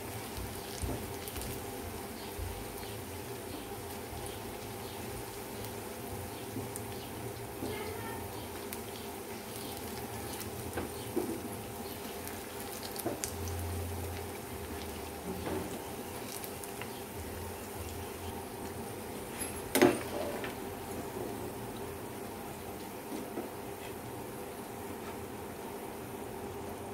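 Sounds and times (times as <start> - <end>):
oil sizzling: 0.0 - 26.8.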